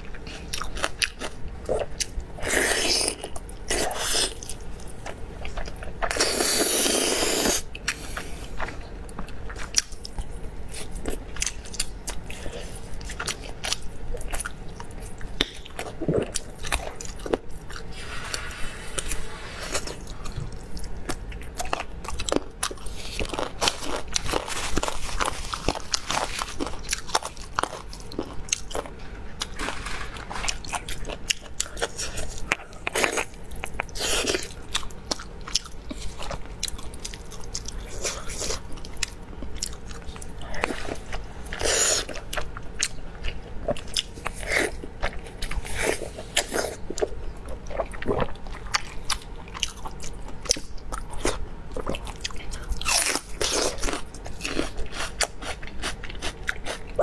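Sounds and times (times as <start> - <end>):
close chewing and mouth smacks: 0.0 - 57.0.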